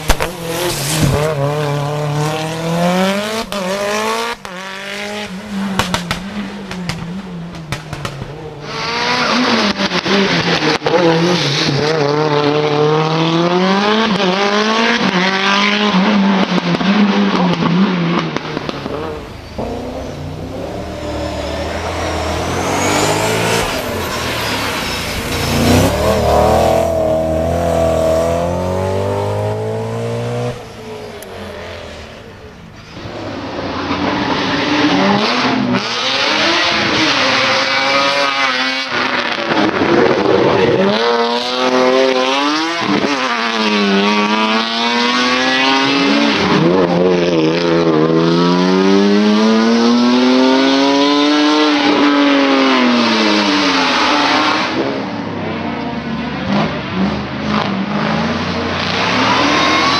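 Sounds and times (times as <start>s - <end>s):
racing car engine revving: 0.0s - 55.1s, 56.4s - 59.9s.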